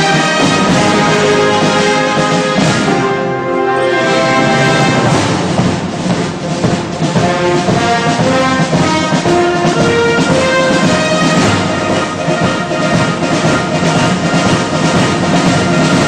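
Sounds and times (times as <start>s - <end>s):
brass band music: 0.0s - 16.0s.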